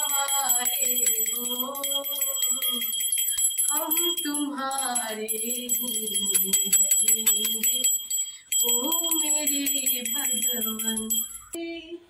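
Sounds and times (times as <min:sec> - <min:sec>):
small brass hand bell ringing: 0:00.0 - 0:11.6.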